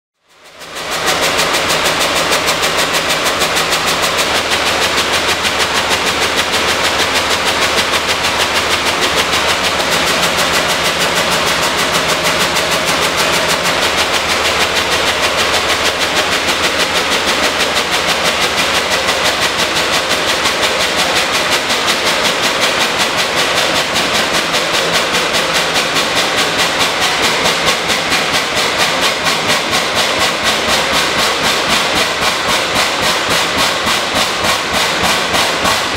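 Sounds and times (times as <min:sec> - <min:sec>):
engine running with mechanical clatter: 0:00.2 - 0:35.9.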